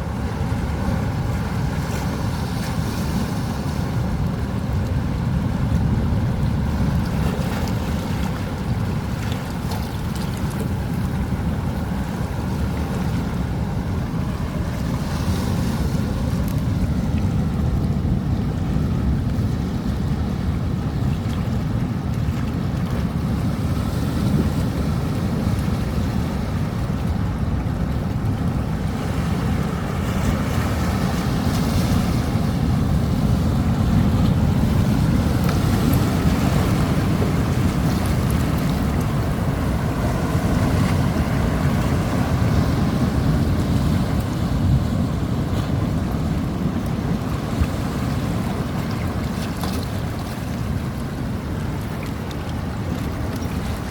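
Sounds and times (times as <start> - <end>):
sea waves crashing on shore: 0.0 - 53.9
wind rumble on microphone: 0.0 - 53.9.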